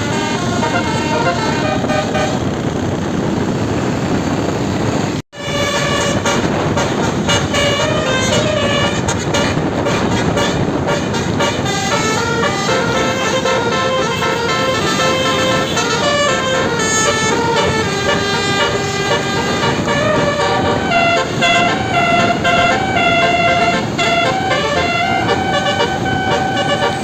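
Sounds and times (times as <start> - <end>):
multi-tone bus horn tune: 0.0 - 2.7, 5.3 - 27.0.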